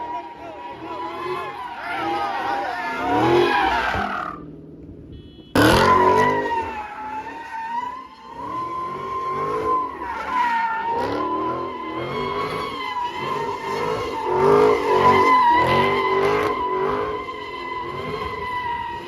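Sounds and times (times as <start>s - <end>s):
car engine revving: 0.0s - 19.0s
car tyres squealing: 0.0s - 19.0s.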